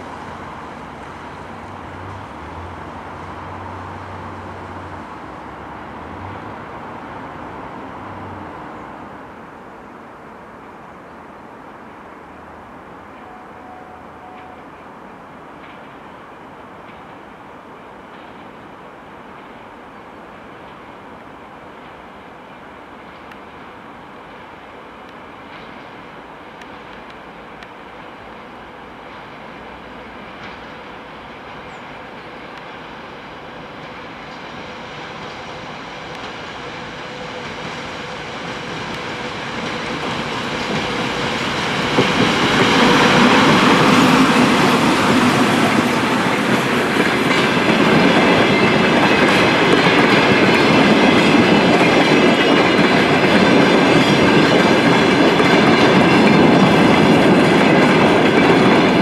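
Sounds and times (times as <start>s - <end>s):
diesel locomotive passing: 0.0s - 59.0s
wheels rumbling on rails: 0.0s - 59.0s.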